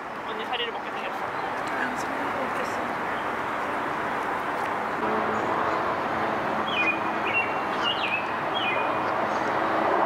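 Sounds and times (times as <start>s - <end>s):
rushing background noise: 0.0s - 10.0s.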